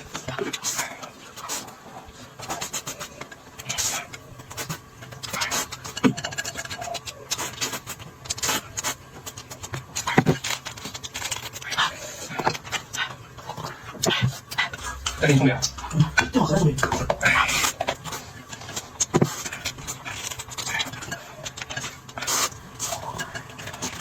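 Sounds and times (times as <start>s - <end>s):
chewing with clicks and scrapes: 0.0s - 24.0s.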